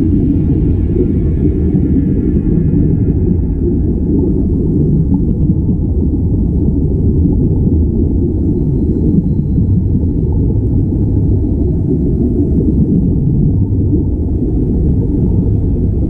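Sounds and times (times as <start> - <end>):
underwater air bubbling: 0.0 - 16.0.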